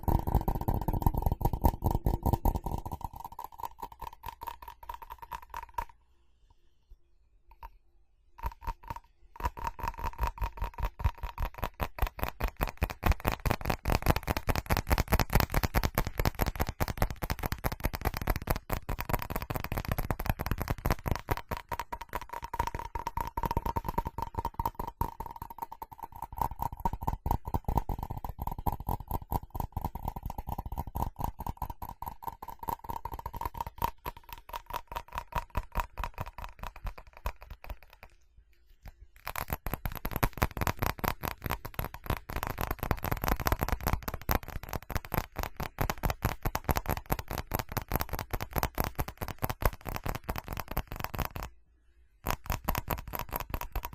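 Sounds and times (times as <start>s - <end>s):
fast tapping on ceramic: 0.0s - 6.0s, 7.5s - 7.8s, 8.4s - 38.2s, 38.8s - 51.5s, 52.2s - 53.9s.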